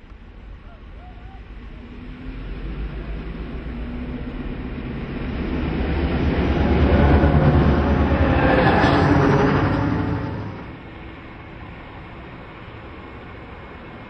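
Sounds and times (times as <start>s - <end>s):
diesel locomotive engine drone: 0.0s - 14.0s
train wheel noise: 1.7s - 14.0s.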